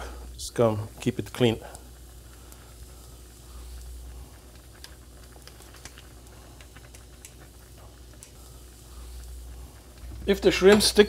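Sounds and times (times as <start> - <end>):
broth simmering: 0.0 - 11.0
low steady hum: 0.0 - 11.0
shrimp frying in a pan: 0.0 - 11.0.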